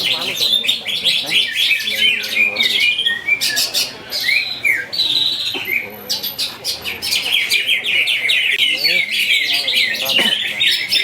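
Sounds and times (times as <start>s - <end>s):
birds singing fast chatter: 0.0s - 11.0s.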